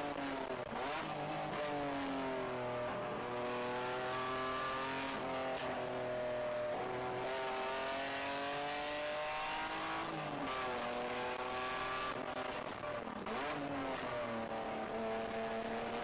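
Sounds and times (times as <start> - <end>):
wind and road noise: 0.0 - 16.0
race car engine revving: 0.4 - 16.0.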